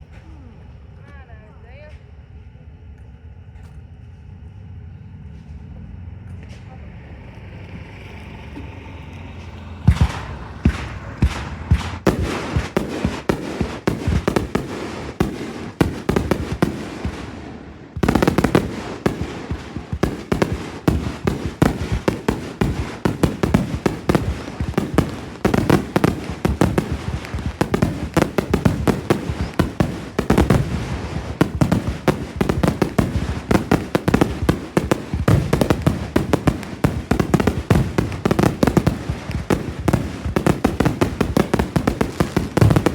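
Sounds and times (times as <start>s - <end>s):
fireworks bangs and crackling: 8.3s - 42.9s.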